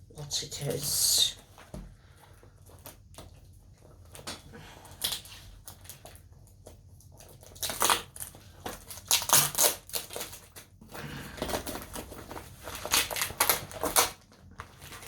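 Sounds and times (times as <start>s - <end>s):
packaging crinkling and rustling: 1.4s - 15.0s.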